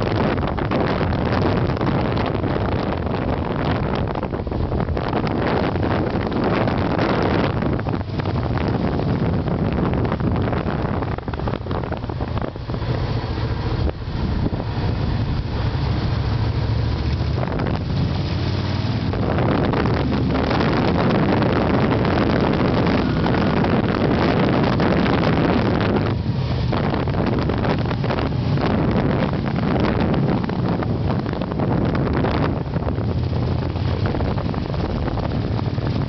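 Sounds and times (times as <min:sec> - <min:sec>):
motorcycle engine running: 0:00.0 - 0:36.0
wind buffeting microphone: 0:00.0 - 0:36.0.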